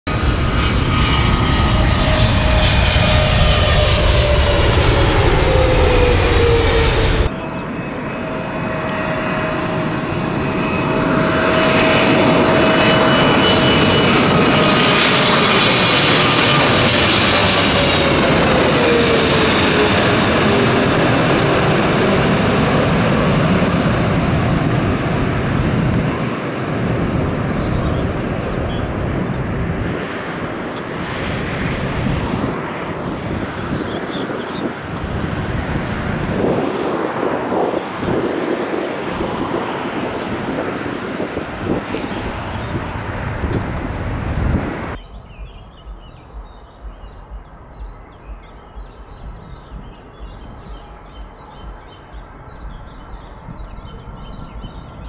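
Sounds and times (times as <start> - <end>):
jet airliners passing overhead: 0.1 - 55.0.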